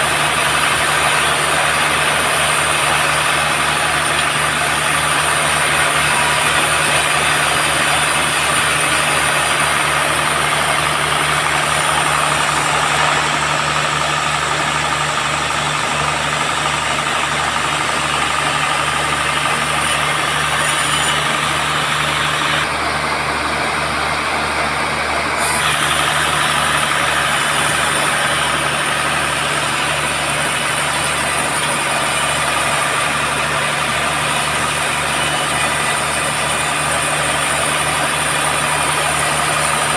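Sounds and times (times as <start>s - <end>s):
saw hissing through wood: 0.0s - 22.8s, 24.5s - 39.9s
band sawmill humming: 0.0s - 39.9s.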